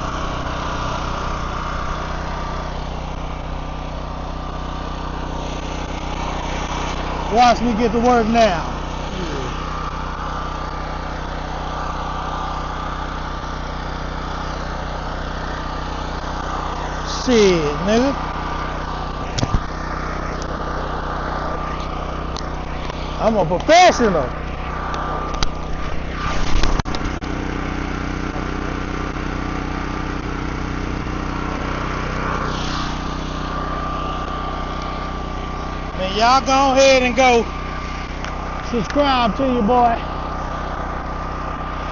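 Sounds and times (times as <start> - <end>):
welding generator engine humming: 0.0 - 41.9.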